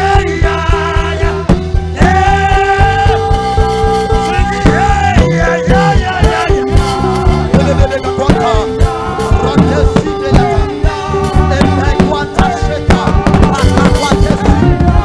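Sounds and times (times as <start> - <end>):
fast drum beat: 0.0 - 15.0
upbeat praise band music: 0.0 - 15.0.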